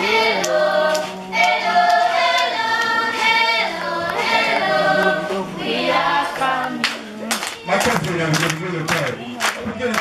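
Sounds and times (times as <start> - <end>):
children's choir singing: 0.0 - 9.9.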